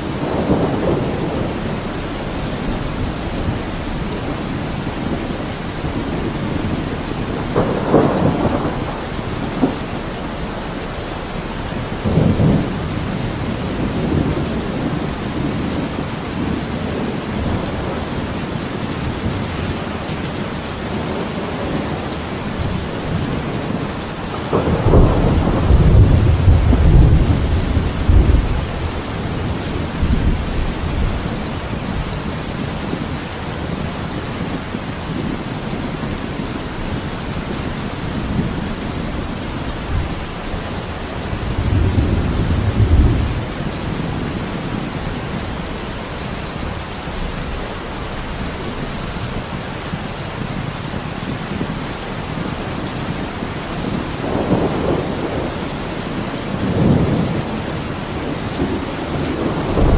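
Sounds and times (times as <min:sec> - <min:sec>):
heavy rain: 0:00.0 - 0:59.9
rolling thunder: 0:00.0 - 0:59.9.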